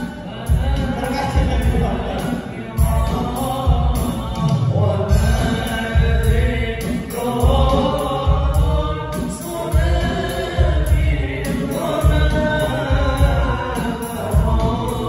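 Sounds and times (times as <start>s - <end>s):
deep drum beat: 0.0s - 15.0s
group of voices singing: 0.0s - 15.0s.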